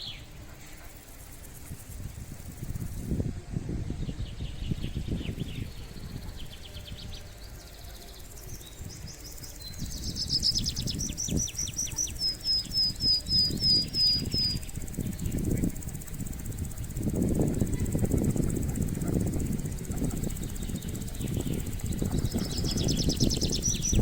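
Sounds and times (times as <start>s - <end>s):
songbird trills and whistled notes: 0.0s - 3.2s, 3.9s - 24.0s.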